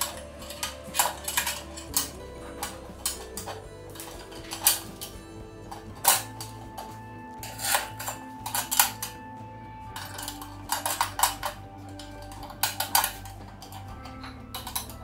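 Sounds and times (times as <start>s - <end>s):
metal parts clinking and tapping: 0.0s - 15.0s.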